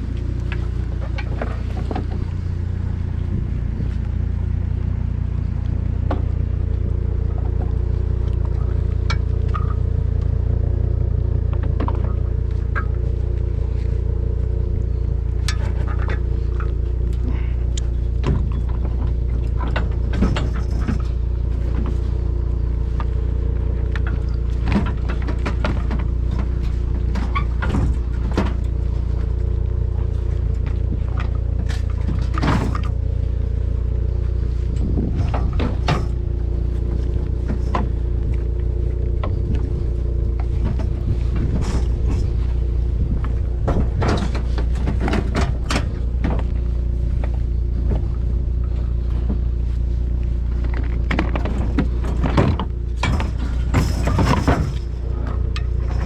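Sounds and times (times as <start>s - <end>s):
vehicle engine droning: 0.0s - 56.0s
sharp clicks and knocks: 5.5s - 13.5s, 14.5s - 33.2s, 34.8s - 49.5s, 50.2s - 56.0s.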